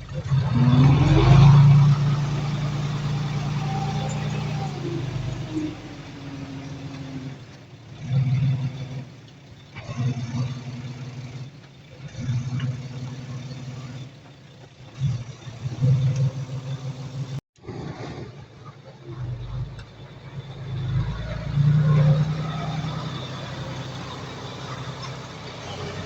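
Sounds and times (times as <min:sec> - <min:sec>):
bulldozer diesel engine surging: 0:00.0 - 0:26.0.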